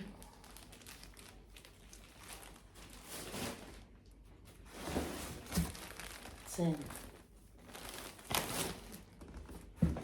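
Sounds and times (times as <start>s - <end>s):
packaging rustling and crinkling: 0.2s - 10.0s.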